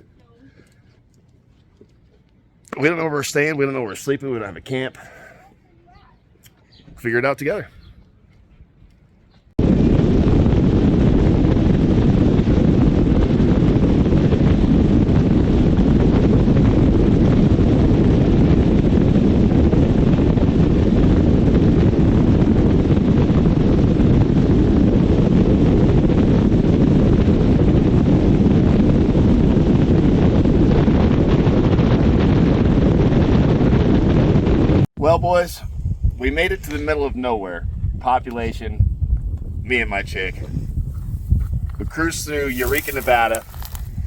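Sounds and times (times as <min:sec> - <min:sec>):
wind buffeting microphone: 0:05.8 - 0:44.0.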